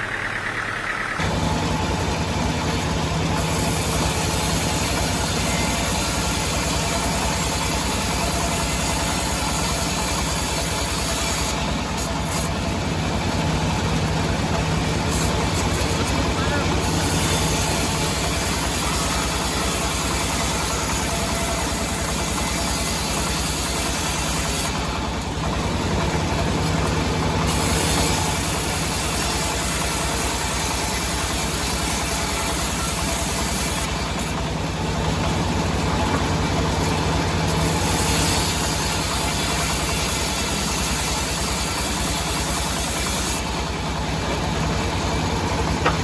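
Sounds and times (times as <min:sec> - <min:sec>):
heavy engine idling: 0:00.0 - 0:46.0.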